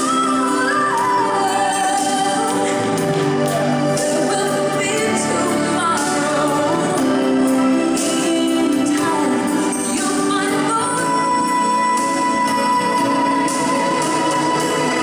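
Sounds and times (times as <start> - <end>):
sustained instrumental backing: 0.0 - 15.0.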